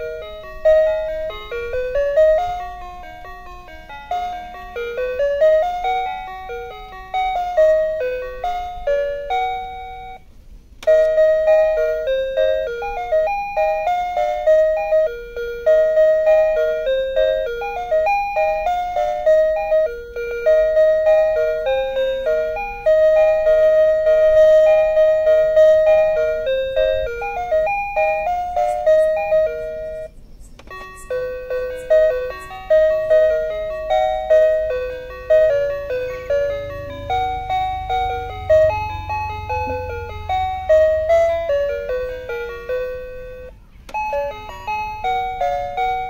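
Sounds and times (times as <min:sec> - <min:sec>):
light single-note melody: 0:00.0 - 0:46.0.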